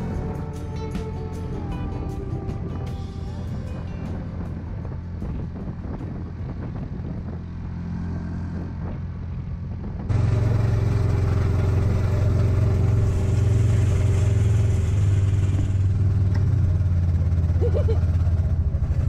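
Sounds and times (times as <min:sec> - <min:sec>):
wind noise: 0:00.0 - 0:16.9
vehicle engine running: 0:00.0 - 0:19.0.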